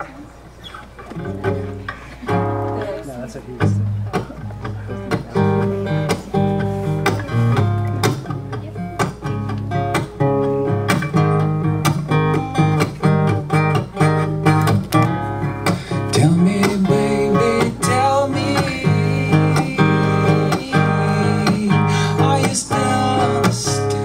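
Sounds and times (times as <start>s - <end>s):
acoustic guitar chords: 1.1s - 24.0s.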